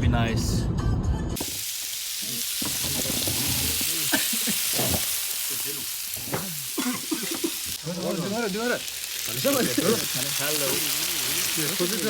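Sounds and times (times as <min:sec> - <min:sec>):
food sizzling on a grill: 0:01.4 - 0:12.0.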